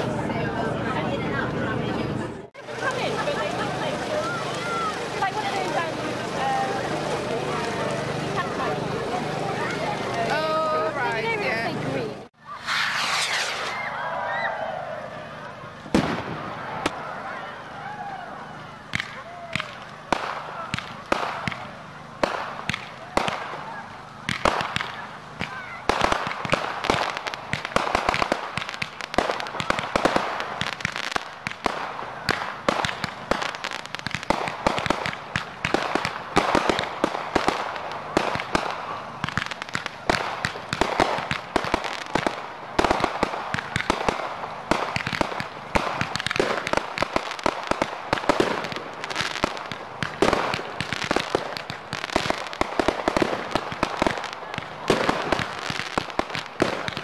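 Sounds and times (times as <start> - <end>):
fireworks cracking and banging: 0.0 - 14.6, 15.3 - 17.8, 18.5 - 57.0.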